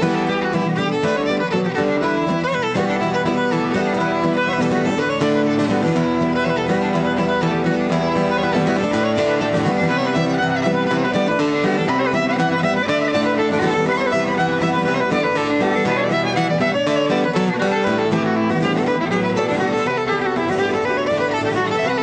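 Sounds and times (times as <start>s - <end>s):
fiddle: 0.0s - 22.0s
mandolin: 0.0s - 22.0s
strummed acoustic guitar: 0.0s - 22.0s.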